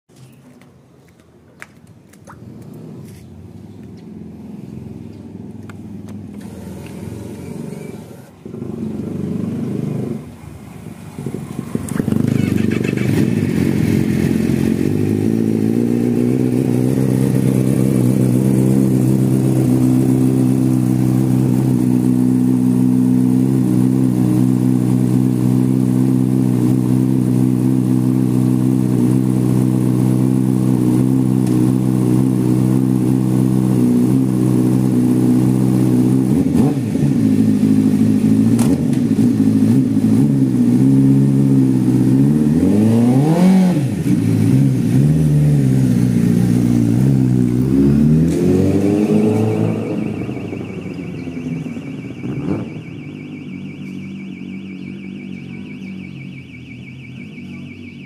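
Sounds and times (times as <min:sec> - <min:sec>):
motorcycle engine idling: 0:02.4 - 0:42.2, 0:49.9 - 0:58.0.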